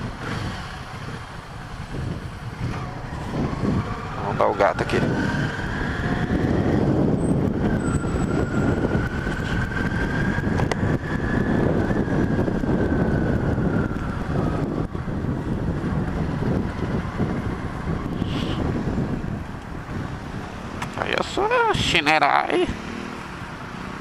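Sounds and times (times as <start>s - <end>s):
wind buffeting microphone: 0.0s - 22.0s
motorcycle engine and road noise: 0.0s - 24.0s.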